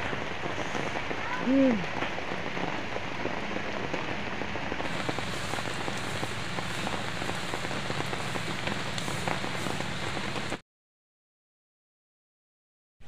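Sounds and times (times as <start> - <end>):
steady rain falling: 0.0 - 10.6.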